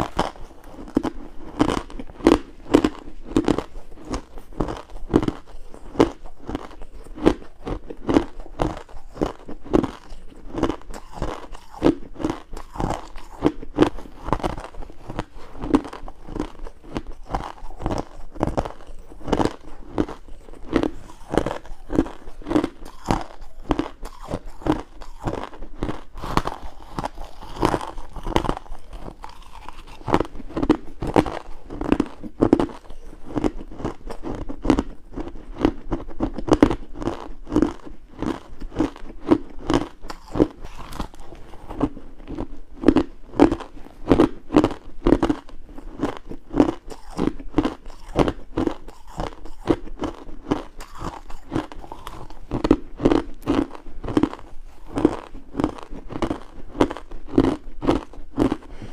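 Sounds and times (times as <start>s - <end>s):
ice being chewed: 0.0s - 58.9s.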